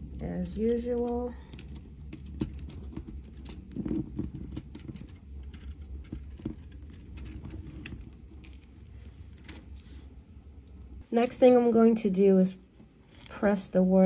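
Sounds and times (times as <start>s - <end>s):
wires clicking and rubbing: 0.0s - 14.0s.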